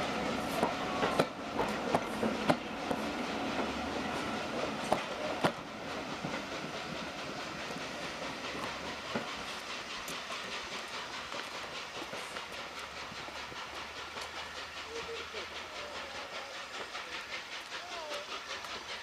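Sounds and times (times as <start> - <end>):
train wheels clacking over rail joints: 0.0 - 19.0.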